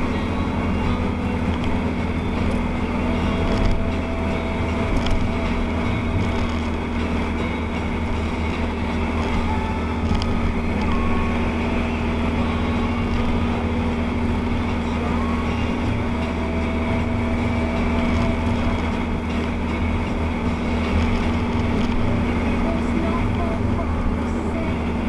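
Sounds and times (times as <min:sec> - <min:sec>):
tyre noise on wet road: 0:00.0 - 0:25.0
vehicle engine drone: 0:00.0 - 0:25.0.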